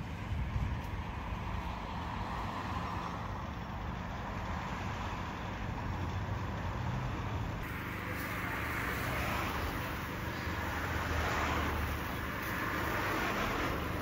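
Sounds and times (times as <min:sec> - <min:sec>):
city road traffic: 0:00.0 - 0:14.0
rumble of passing bus: 0:00.0 - 0:14.0.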